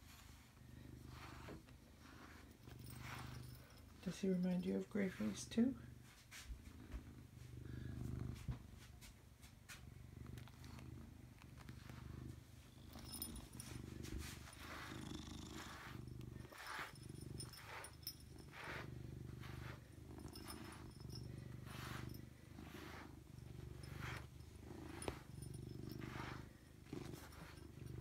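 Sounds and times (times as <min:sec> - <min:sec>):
cat purring: 0:00.0 - 0:28.0
soft rustling: 0:00.0 - 0:28.0.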